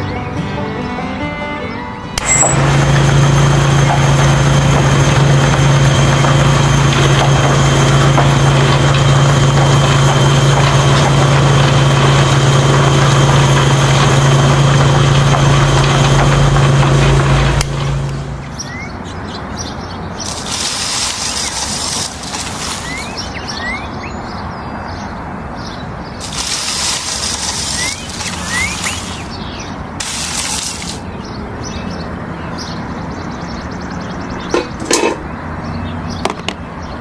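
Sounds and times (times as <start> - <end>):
engine humming steadily: 2.1 - 24.1, 26.2 - 36.8.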